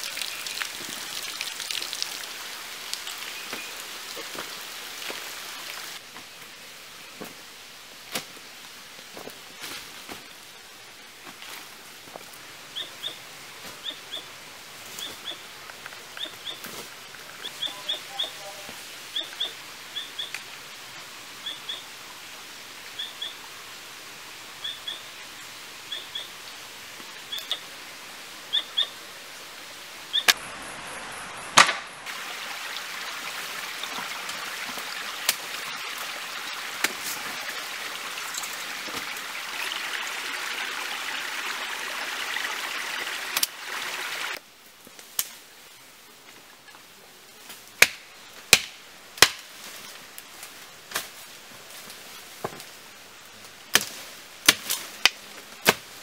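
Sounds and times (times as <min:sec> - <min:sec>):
forest ambience: 0:00.0 - 0:56.0.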